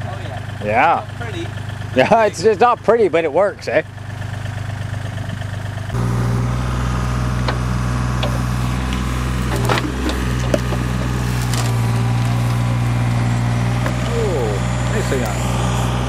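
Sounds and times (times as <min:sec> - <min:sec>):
farm machine engine running: 0:00.0 - 0:16.0.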